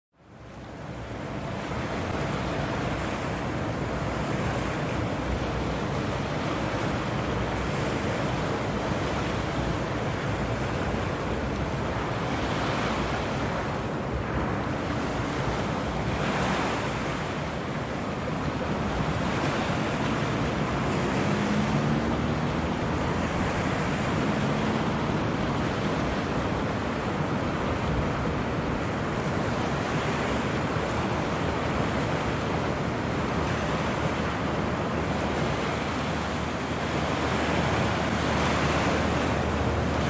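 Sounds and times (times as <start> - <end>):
water rushing: 0.2 - 40.0.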